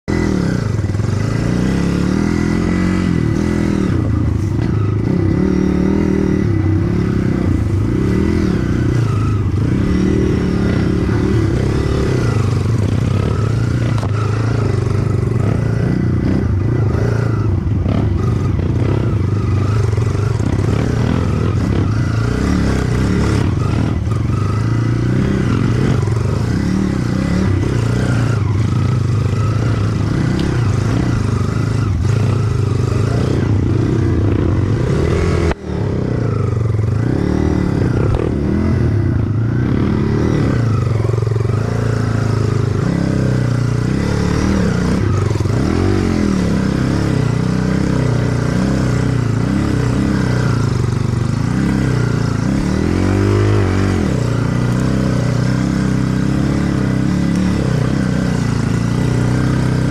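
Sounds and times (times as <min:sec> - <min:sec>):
motorcycle engine at low revs: 0:00.0 - 0:59.9.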